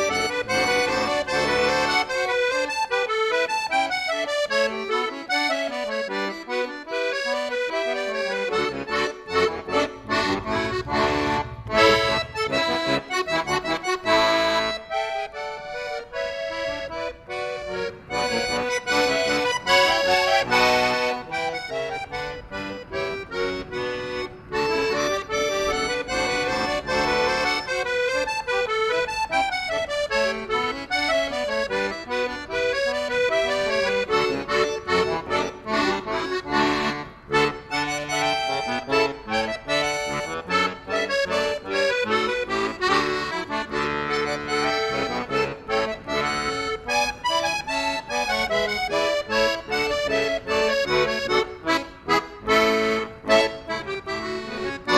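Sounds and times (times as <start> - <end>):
accordion music: 0.0 - 54.9.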